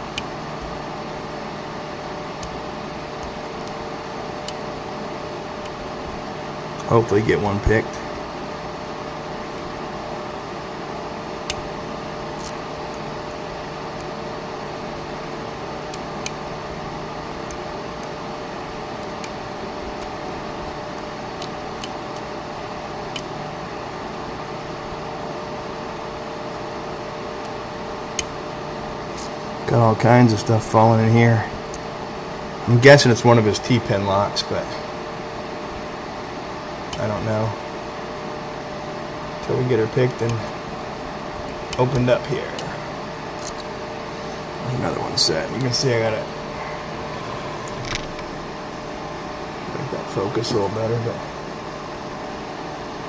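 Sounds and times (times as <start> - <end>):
electric fan whirring: 0.0 - 53.0.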